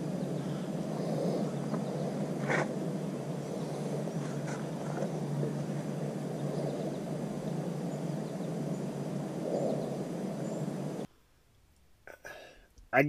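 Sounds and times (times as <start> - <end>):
faint bird chirps: 0.0 - 11.1
low outdoor rumble: 0.0 - 12.0.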